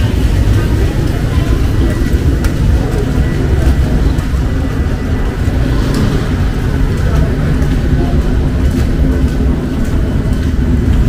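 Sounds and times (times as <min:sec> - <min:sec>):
traffic on wet street: 0:00.0 - 0:11.0.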